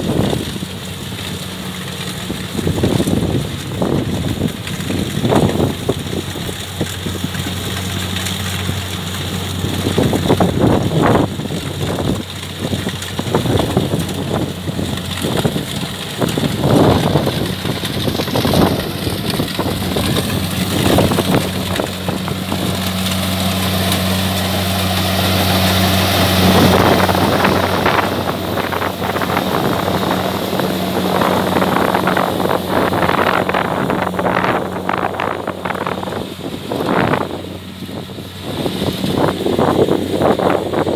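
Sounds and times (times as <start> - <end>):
engine humming: 0.0 - 40.9
wind buffeting microphone: 2.0 - 40.9.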